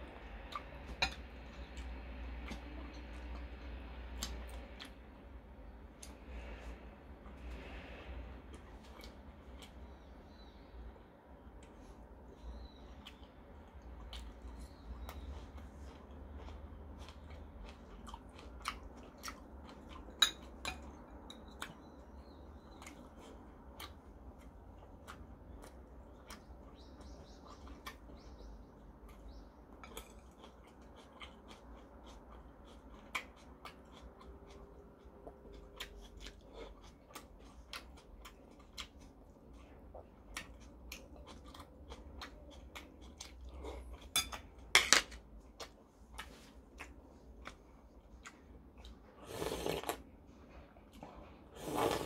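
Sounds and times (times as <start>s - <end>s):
chewing and mouth noises: 0.0s - 10.6s, 11.5s - 52.0s.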